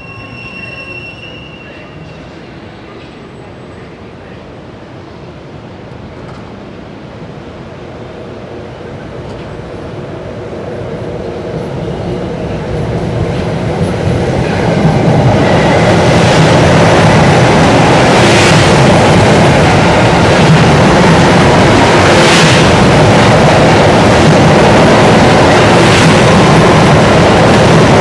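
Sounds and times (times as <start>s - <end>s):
commuter train approaching on rails: 0.0s - 28.0s.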